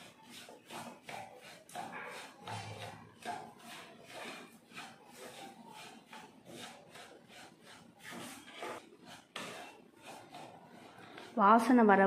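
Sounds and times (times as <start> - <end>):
wooden spatula scraping a pan: 0.0 - 12.0.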